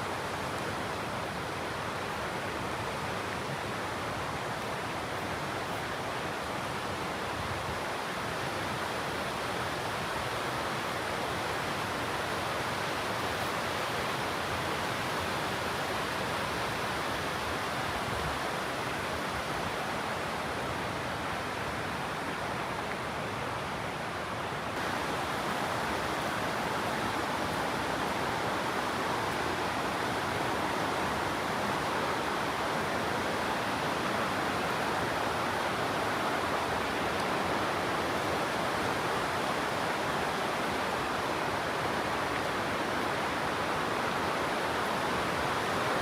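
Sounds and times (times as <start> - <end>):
running water rushing: 0.0 - 46.0.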